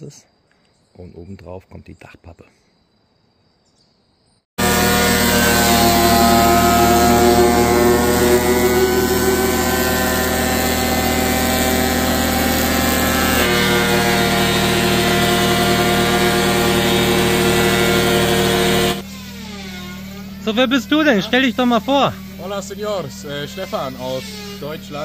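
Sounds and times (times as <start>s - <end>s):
thickness planer cutting wood: 4.6s - 25.0s.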